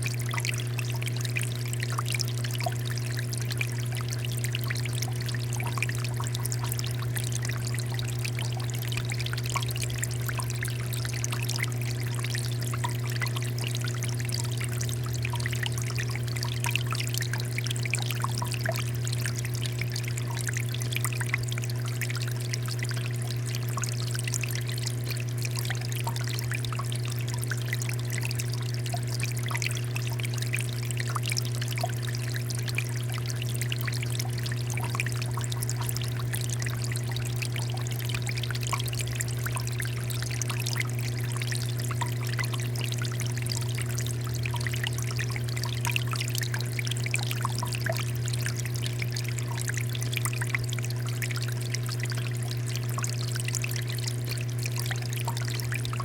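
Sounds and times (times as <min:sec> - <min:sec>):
steady low hum: 0:00.0 - 0:56.0
water fountain trickling: 0:00.0 - 0:56.0.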